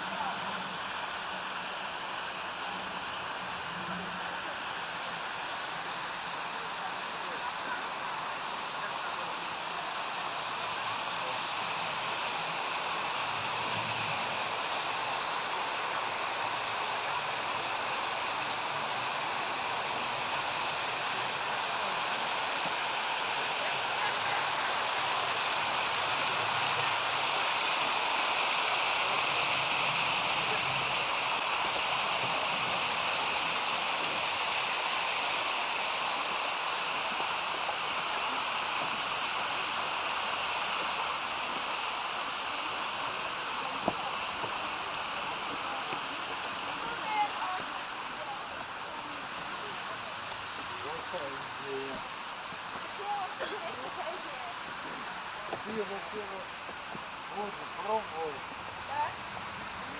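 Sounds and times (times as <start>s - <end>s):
creek over small waterfalls: 0.0s - 59.9s.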